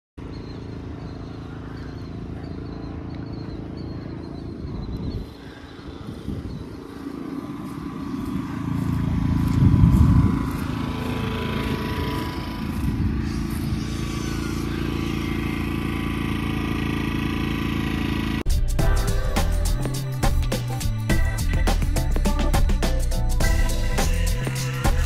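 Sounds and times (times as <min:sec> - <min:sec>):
power equipment motor hum: 0:00.2 - 0:25.0.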